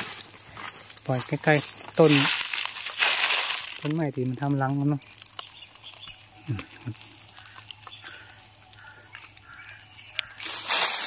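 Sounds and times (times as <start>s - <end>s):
dry leaves rustling: 0.0s - 11.0s.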